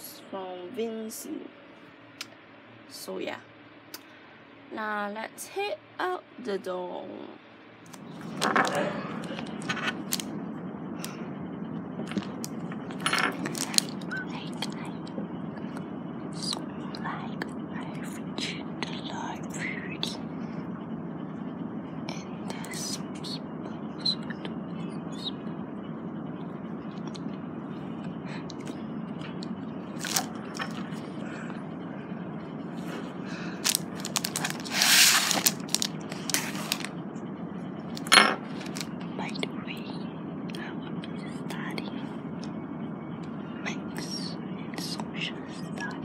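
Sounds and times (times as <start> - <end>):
steady room hum: 0.0 - 46.0.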